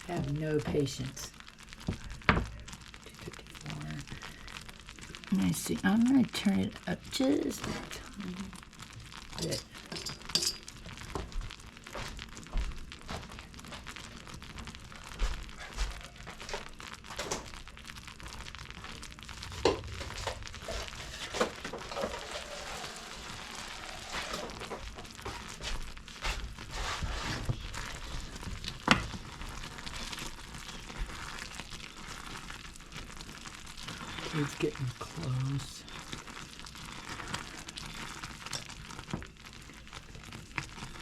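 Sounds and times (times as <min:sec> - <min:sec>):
toffee boiling with sizzling hiss: 0:00.0 - 0:41.0.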